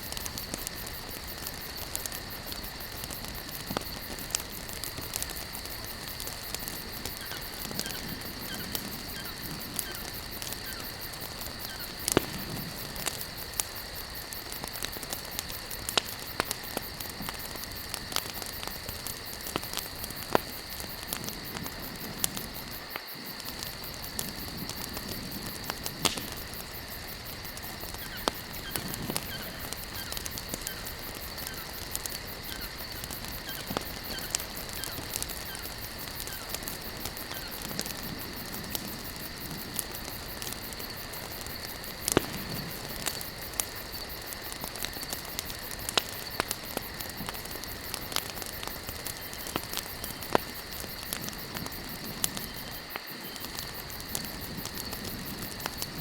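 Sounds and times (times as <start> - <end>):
campfire logs crackling and popping: 0.0 - 56.0.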